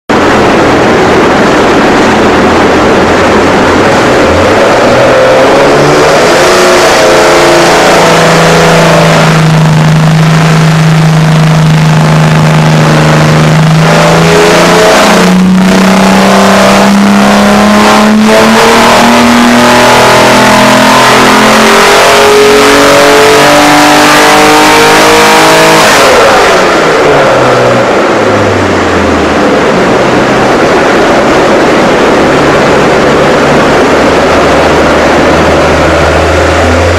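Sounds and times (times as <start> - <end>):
engine revving on dyno: 0.1 - 36.9.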